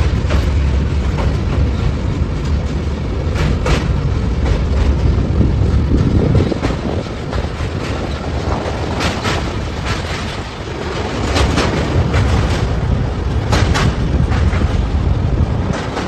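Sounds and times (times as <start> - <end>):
train rumbling: 0.0 - 16.0
wheel clicks over rail joints: 0.0 - 16.0.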